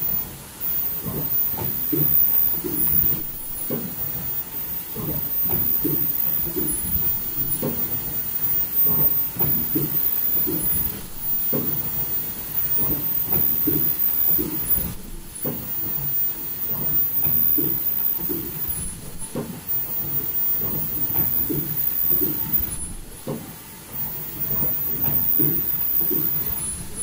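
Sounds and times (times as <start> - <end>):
low mechanical thumps: 0.0 - 27.0
machine hiss: 0.0 - 27.0.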